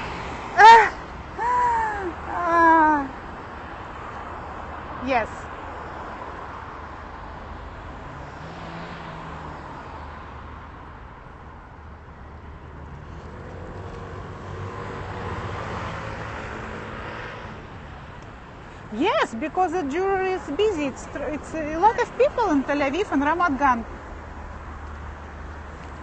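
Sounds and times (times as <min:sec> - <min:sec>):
vehicles passing with low rumble: 0:00.0 - 0:26.0.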